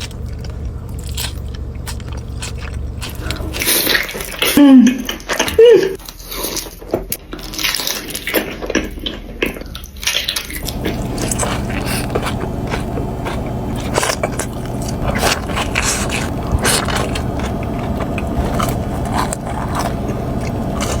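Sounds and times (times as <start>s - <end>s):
steady low hum: 0.0s - 6.1s, 8.7s - 21.0s
biting and chewing: 0.0s - 21.0s.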